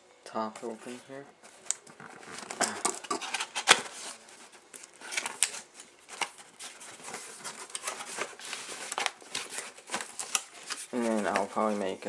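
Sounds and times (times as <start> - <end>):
cardboard scraping and rustling: 0.6 - 12.0.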